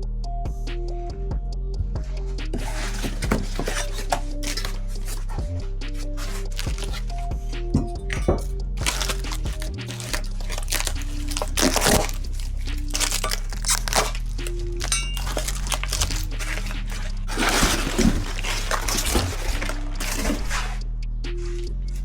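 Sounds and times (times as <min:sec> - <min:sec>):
background music with bass line: 0:00.0 - 0:22.0.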